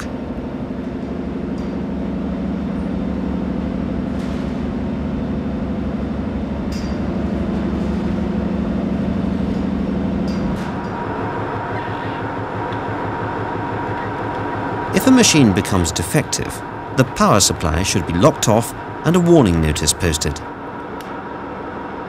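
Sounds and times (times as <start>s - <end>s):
engine room machinery drone: 0.0s - 22.0s.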